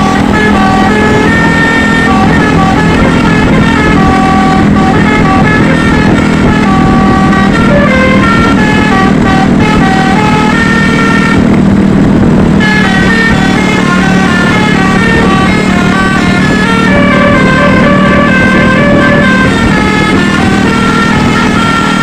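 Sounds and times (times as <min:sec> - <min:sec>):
multi-tone musical bus horn: 0:00.0 - 0:22.0.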